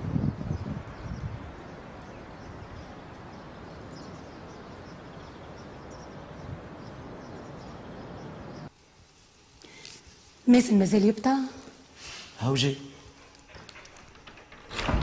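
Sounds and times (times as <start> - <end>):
outdoor background noise: 0.0 - 15.0
small birds chirping: 0.2 - 13.7.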